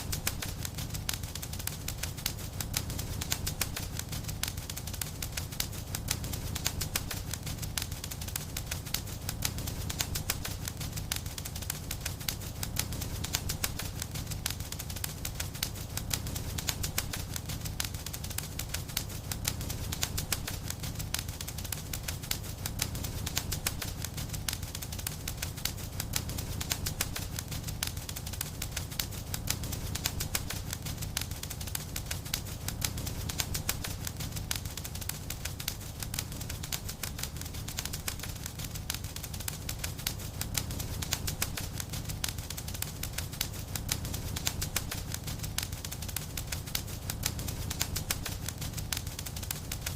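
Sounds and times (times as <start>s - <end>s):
low rumble of flames: 0.0s - 49.9s
wood fire crackling: 0.0s - 49.9s.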